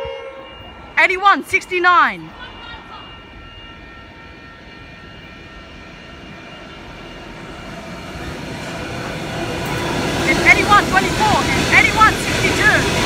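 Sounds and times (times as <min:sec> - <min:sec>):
diesel locomotive engine: 0:00.0 - 0:13.0
train wheels rumbling: 0:00.0 - 0:13.0.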